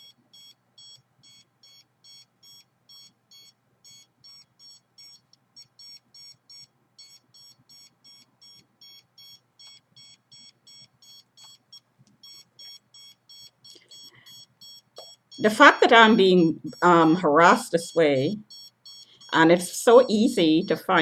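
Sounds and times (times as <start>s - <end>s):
high-pitched electronic beeps: 0.0s - 11.6s, 12.2s - 21.0s.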